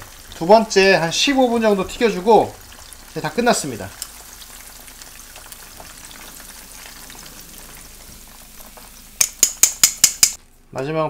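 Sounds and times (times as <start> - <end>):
chicken deep-frying in oil: 0.0 - 10.4.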